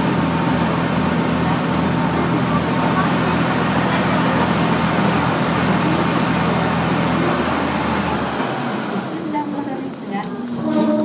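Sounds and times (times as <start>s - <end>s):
low engine drone: 0.0s - 11.0s
train wheels roaring on rail: 0.0s - 11.0s.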